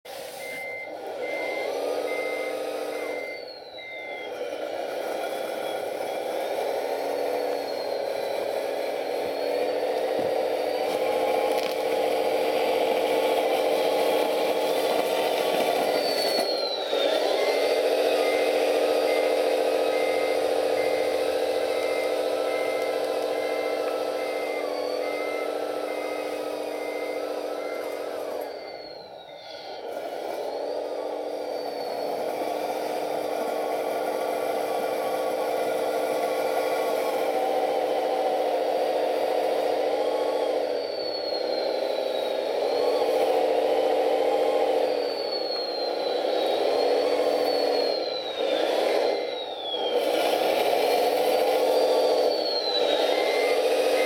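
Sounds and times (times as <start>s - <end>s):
simulated diesel engine: 0.0s - 54.0s
high whine: 0.1s - 54.0s
reversing beeper: 0.1s - 54.0s.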